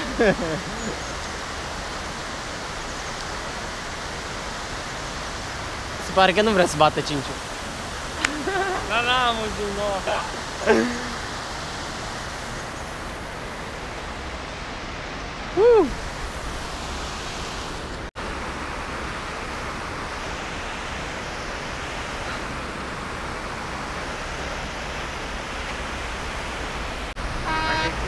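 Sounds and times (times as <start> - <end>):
water rushing over weir: 0.0 - 28.0.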